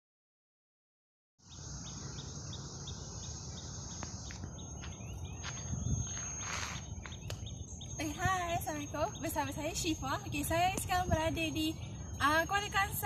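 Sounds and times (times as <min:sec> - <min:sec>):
high-pitched insect drone: 0:01.4 - 0:13.0.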